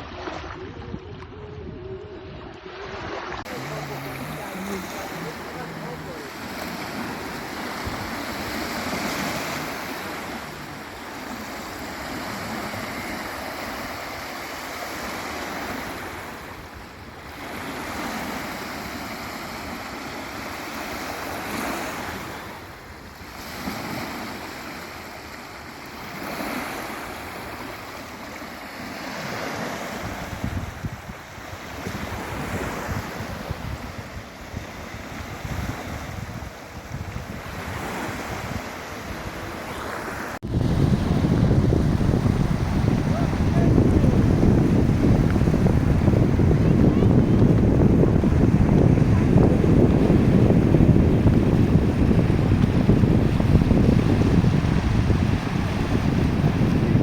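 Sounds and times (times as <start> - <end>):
wind buffeting microphone: 0.0 - 28.2, 28.8 - 57.0
sea waves breaking on beach: 0.0 - 57.0.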